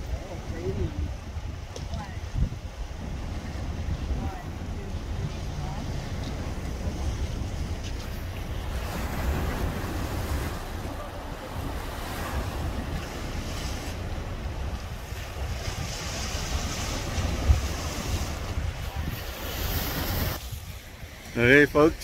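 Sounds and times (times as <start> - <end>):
lake waves washing: 0.0 - 22.0
wind buffeting microphone: 0.0 - 22.0.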